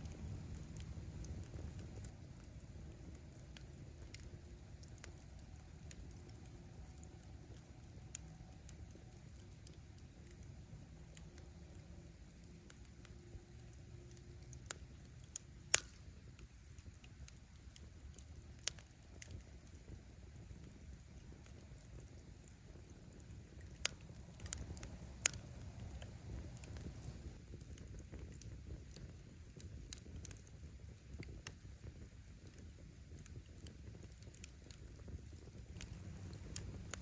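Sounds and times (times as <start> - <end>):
bonfire flames rumbling: 0.0 - 37.0
firewood crackling and popping: 0.0 - 37.0.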